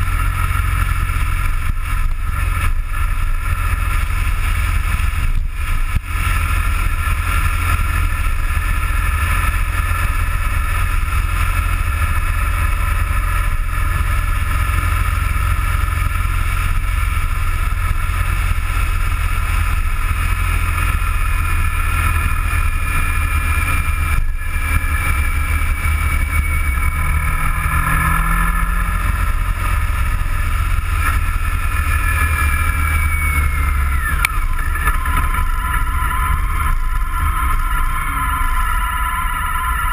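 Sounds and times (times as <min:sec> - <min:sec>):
vehicle engine whine: 0:00.0 - 0:39.9
wind and road noise: 0:00.0 - 0:39.9.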